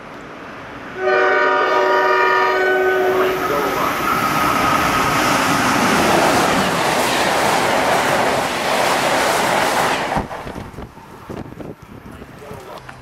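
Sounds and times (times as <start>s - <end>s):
train rushing past: 0.2s - 13.0s.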